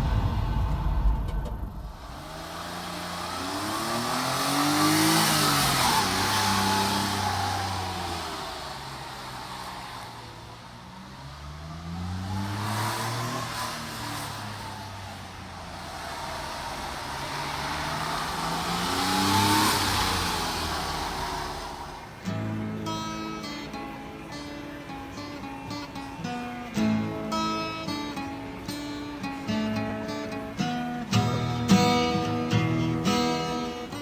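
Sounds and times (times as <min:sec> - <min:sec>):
small truck driving past: 0:00.0 - 0:34.0
tyre noise: 0:00.0 - 0:34.0.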